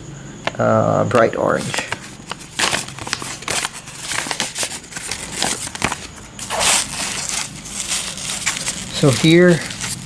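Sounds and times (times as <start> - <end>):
nylon straps rustling and clicking: 1.6 - 10.0
scraping rustle: 1.6 - 10.0.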